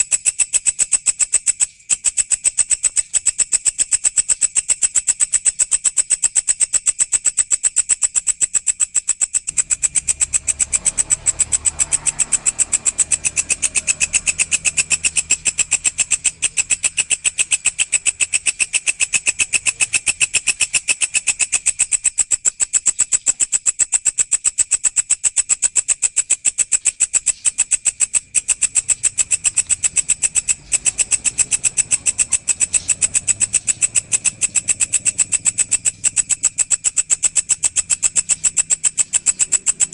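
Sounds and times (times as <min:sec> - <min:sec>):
insect stridulating: 0:00.0 - 0:39.9.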